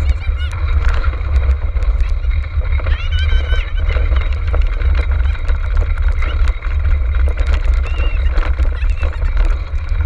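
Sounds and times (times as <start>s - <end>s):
cart rumbling over rough ground: 0.0s - 10.0s
wind buffeting microphone: 0.0s - 10.0s.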